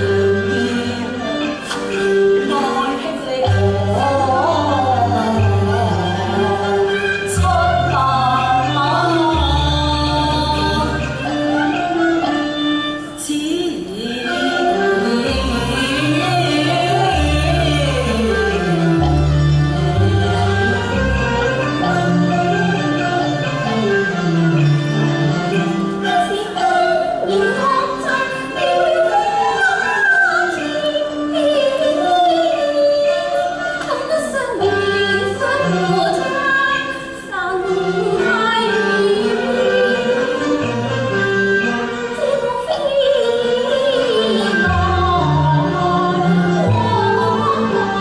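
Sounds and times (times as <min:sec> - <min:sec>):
instrumental accompaniment: 0:00.0 - 0:48.0
opera singing with wavering pitch: 0:00.0 - 0:48.0.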